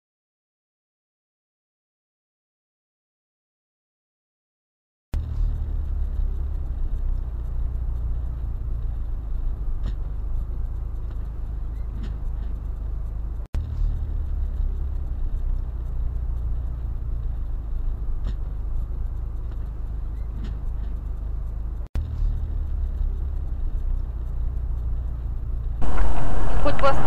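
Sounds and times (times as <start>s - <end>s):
car road noise at highway speed: 5.2s - 27.0s.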